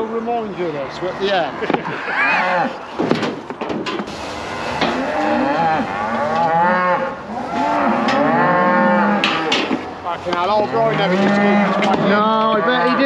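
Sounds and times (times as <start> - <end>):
cattle bellowing: 0.4 - 3.0, 4.1 - 13.0.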